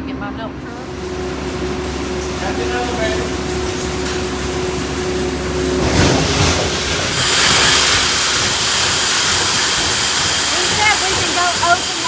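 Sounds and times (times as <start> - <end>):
farm machinery engine running: 0.1 - 12.0
loud rushing hiss: 0.7 - 12.0
machinery jolt: 0.7 - 12.0.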